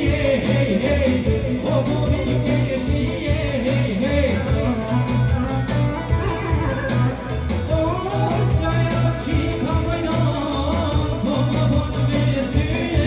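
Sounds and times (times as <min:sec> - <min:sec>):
live pop band playing: 0:00.0 - 0:13.0
person singing: 0:00.0 - 0:13.0
repeating bass beat: 0:00.0 - 0:13.0.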